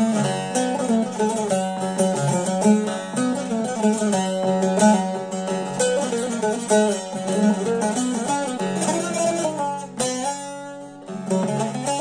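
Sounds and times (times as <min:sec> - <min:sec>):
plucked long-necked lute melody: 0:00.0 - 0:12.0.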